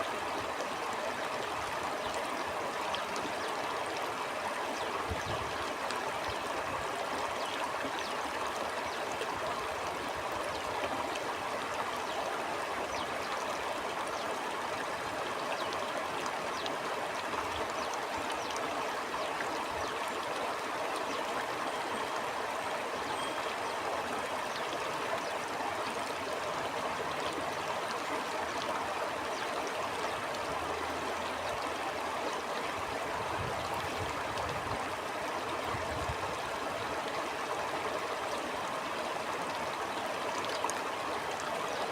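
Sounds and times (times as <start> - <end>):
stream burbling over rocks: 0.0 - 41.9.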